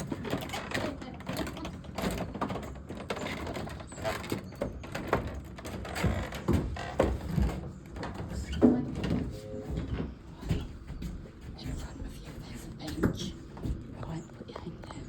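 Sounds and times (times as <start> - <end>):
footsteps walking up a ramp: 0.0 - 14.6
knocks and clunks: 0.0 - 14.6.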